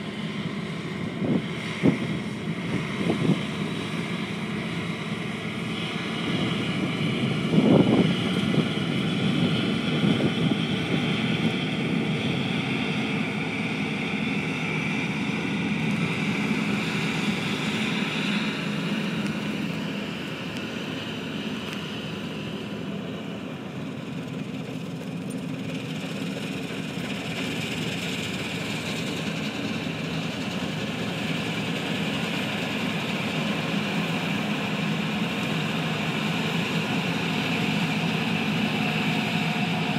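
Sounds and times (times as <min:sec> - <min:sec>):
combine harvester running: 0:00.0 - 0:39.9
high mechanical whine: 0:00.0 - 0:39.9.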